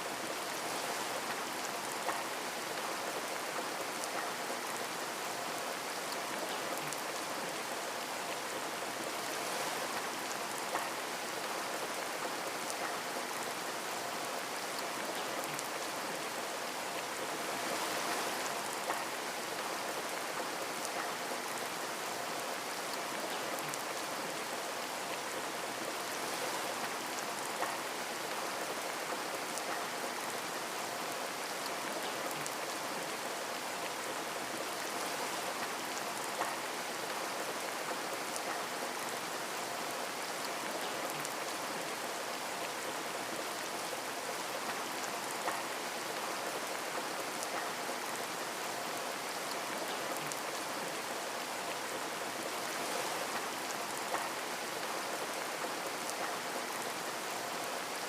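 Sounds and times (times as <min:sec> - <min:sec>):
rain pattering on a window: 0:00.1 - 0:58.0.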